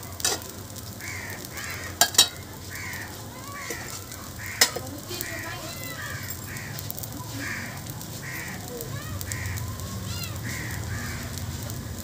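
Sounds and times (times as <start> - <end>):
food sizzling on hot griddle: 0.0 - 12.0
crows cawing: 0.9 - 11.8.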